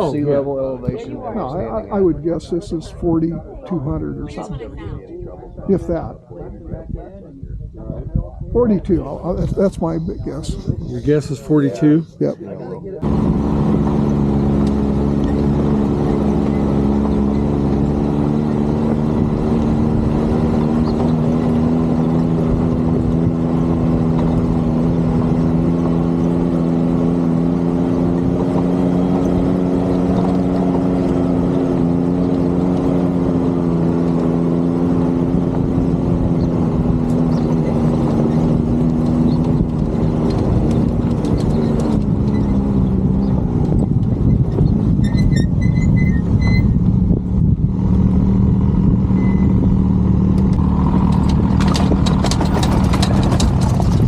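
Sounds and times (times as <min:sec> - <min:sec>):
vehicle engine running: 0:08.6 - 0:54.0.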